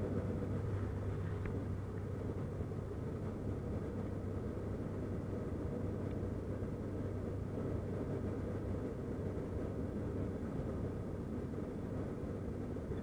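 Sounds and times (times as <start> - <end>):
propeller engine drone: 0.0 - 13.0.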